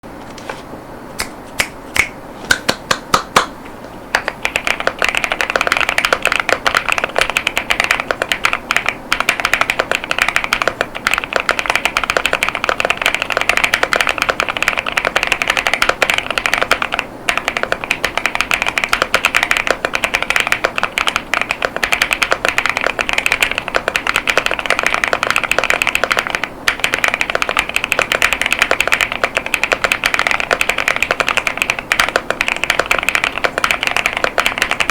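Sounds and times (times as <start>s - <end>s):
mechanical keyboard typing: 4.2s - 34.9s.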